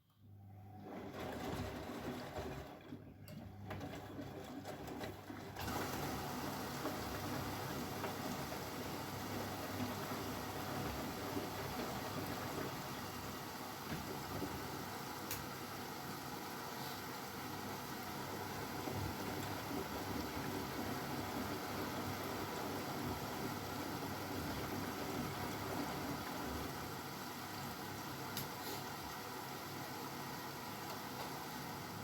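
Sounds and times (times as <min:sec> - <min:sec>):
washing machine running: 0:00.4 - 0:32.0.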